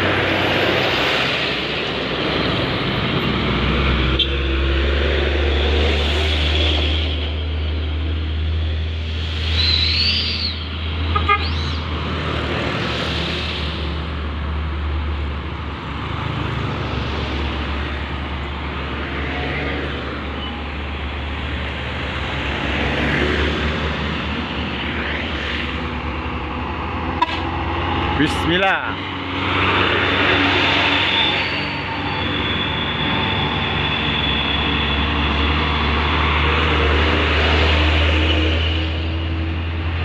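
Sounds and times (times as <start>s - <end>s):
heavy vehicles driving past: 0.0s - 40.0s.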